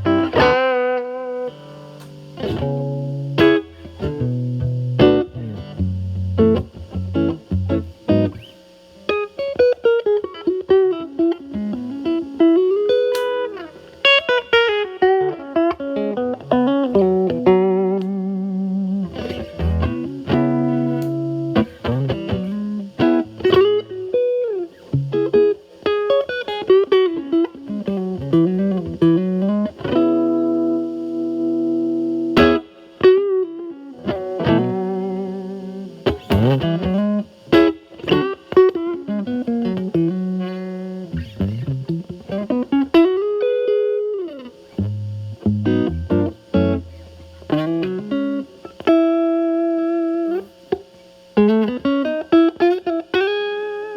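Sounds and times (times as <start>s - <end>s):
distorted electric guitar licks: 0.0s - 53.9s.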